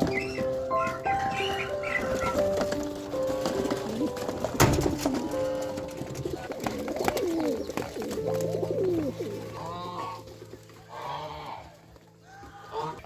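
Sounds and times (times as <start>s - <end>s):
farm birds calling: 0.0s - 13.0s.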